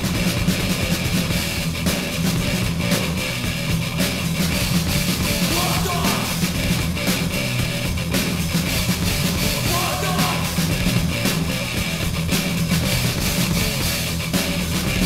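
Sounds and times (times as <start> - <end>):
thrash metal music: 0.0 - 15.0.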